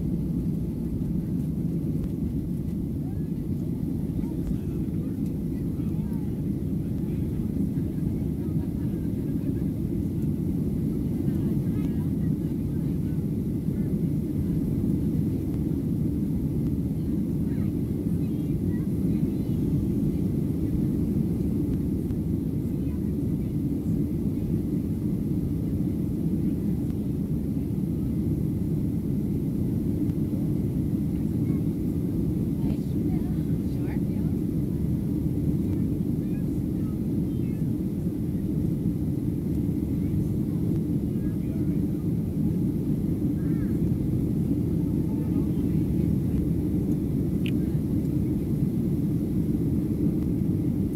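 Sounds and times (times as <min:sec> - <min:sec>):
airflow over fuselage: 0:00.0 - 0:50.9
jet engines in cabin: 0:00.0 - 0:50.9.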